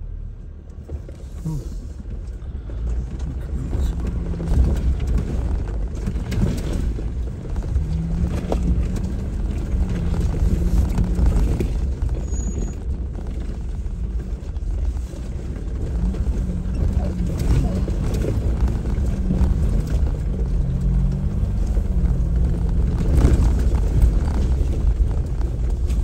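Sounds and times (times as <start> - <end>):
off-road vehicle engine rumble: 0.0 - 26.0.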